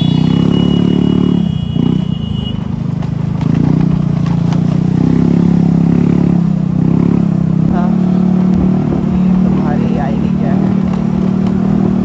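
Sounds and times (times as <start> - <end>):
motor scooter engine running: 0.0 - 12.0.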